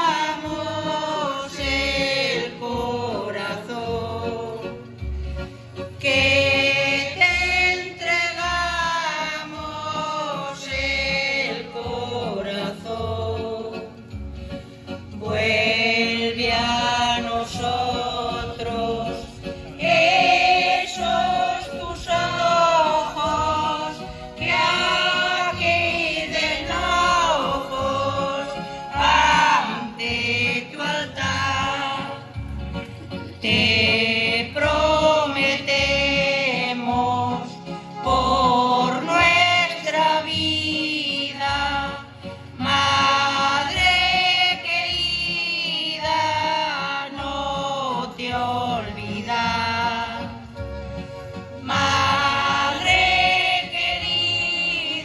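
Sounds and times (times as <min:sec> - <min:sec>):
choir singing a hymn: 0:00.0 - 0:05.2, 0:05.8 - 0:14.2, 0:14.9 - 0:32.5, 0:33.2 - 0:55.0.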